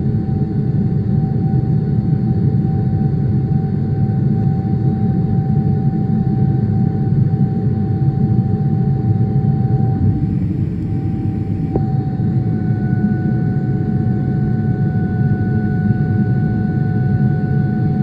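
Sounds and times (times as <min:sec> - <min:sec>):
jet engine rumble and whine: 0:00.0 - 0:18.0.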